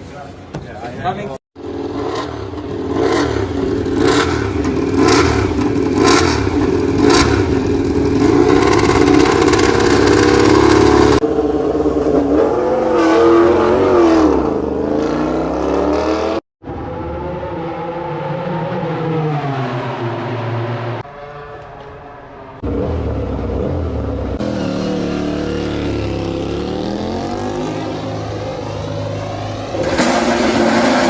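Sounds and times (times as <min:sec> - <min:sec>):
racing motorcycle engine: 0:01.6 - 0:31.0.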